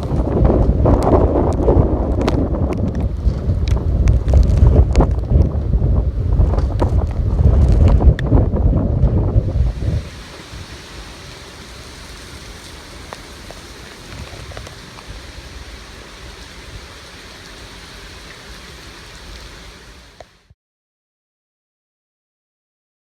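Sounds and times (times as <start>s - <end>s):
ticks of raindrops striking: 0.0s - 8.4s, 9.7s - 20.5s
heavy rain falling: 0.0s - 20.6s.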